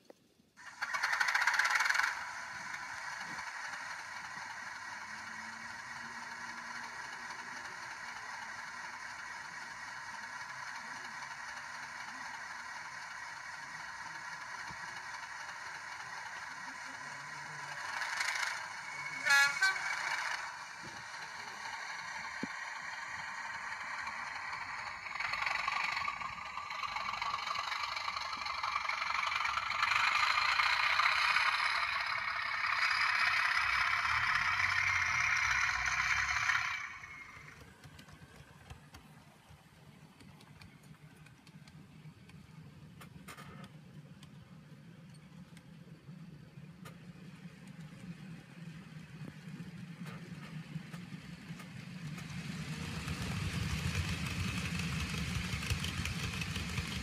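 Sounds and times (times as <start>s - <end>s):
model train whirring hiss: 0.6s - 57.0s.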